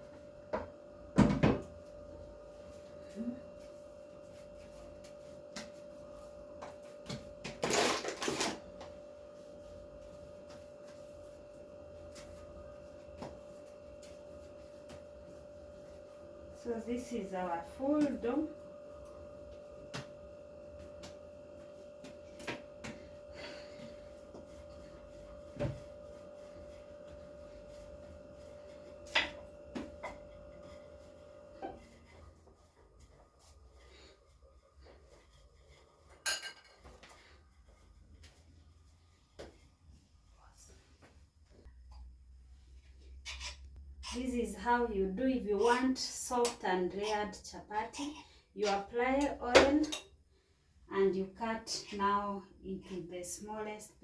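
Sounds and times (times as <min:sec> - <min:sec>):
faint hum: 0:00.0 - 0:54.0.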